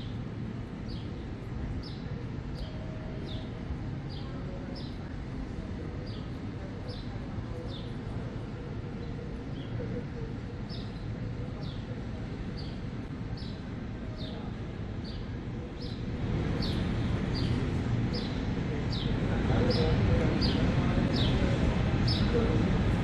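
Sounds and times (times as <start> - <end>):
low city rumble: 0.0 - 23.0.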